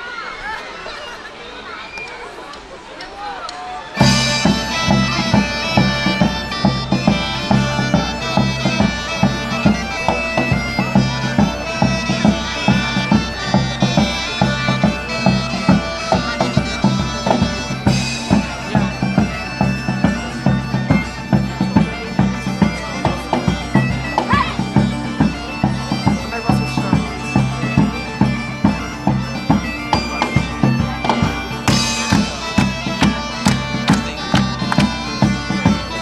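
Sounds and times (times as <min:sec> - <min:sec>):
bagpipes playing a tune: 0:03.9 - 0:36.0
drum beat: 0:04.0 - 0:36.0.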